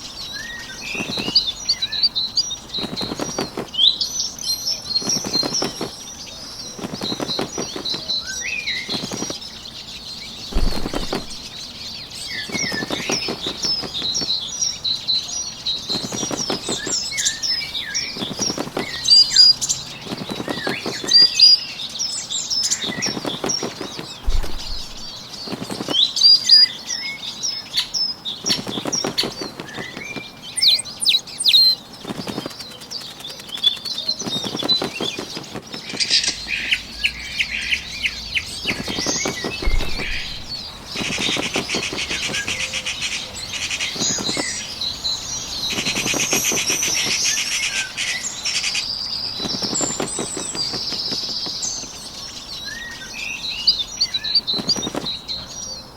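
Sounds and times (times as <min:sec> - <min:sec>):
songbirds chirping: 0:00.0 - 0:55.9
wings fluttering: 0:00.5 - 0:26.7, 0:27.8 - 0:52.5, 0:54.0 - 0:55.4.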